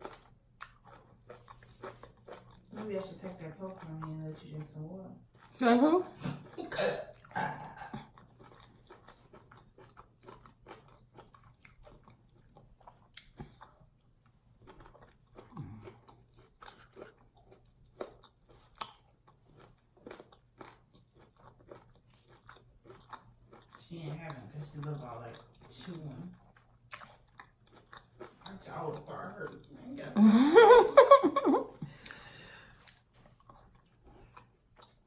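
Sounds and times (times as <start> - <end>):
crunchy chewing: 0.0 - 5.6, 6.3 - 29.7, 32.0 - 35.0.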